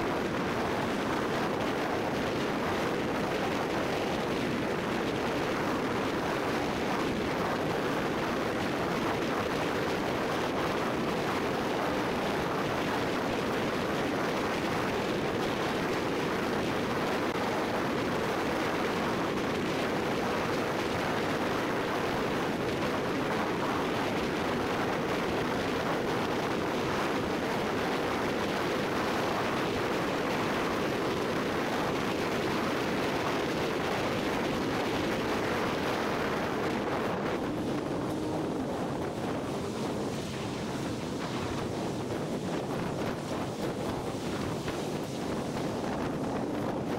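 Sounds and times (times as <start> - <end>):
wind and tyre road rush: 0.0 - 46.9.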